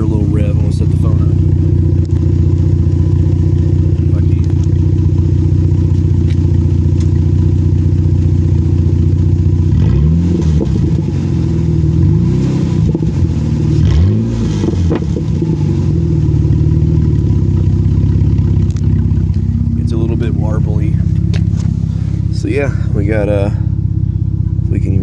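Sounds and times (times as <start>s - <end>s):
loud engine idling and revving: 0.0s - 25.0s.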